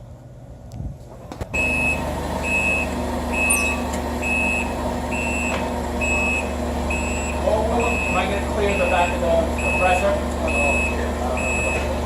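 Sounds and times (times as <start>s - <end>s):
forklift engine humming: 1.5s - 12.0s
reversing alarm beeping: 1.6s - 11.9s.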